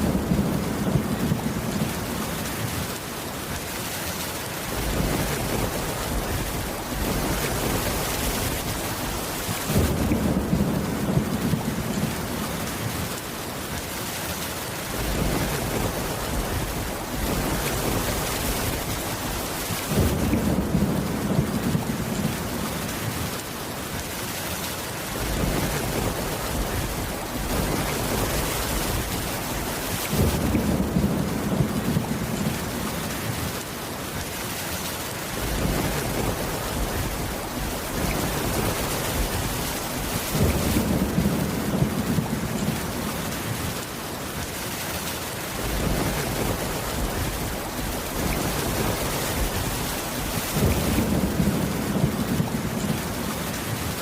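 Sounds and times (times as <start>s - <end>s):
thunder rumbling: 0.0s - 3.0s, 4.6s - 13.2s, 14.8s - 23.4s, 25.1s - 33.6s, 35.3s - 43.9s, 45.5s - 54.0s
heavy rain on wooden roof: 0.0s - 54.0s.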